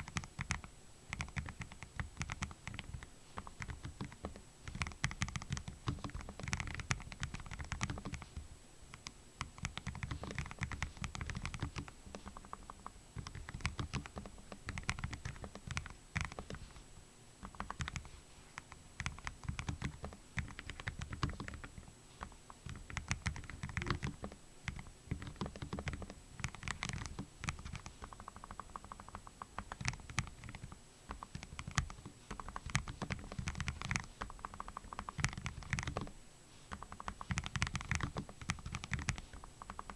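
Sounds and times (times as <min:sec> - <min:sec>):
mechanical keyboard typing: 0:00.0 - 0:08.2, 0:08.9 - 0:16.7, 0:17.4 - 0:39.9.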